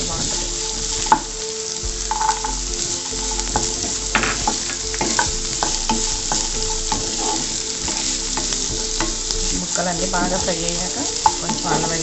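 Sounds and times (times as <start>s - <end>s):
vegetables sizzling in oil: 0.0s - 12.0s
wooden spatula scraping a pan: 0.0s - 12.0s.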